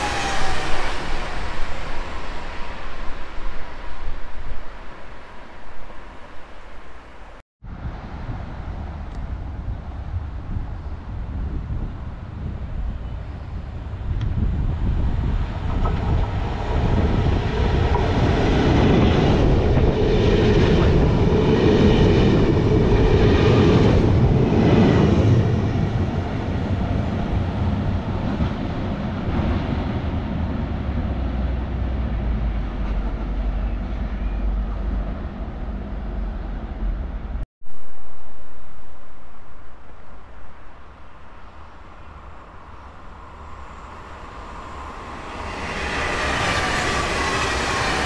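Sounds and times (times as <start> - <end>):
train running on tracks: 0.0 - 48.0.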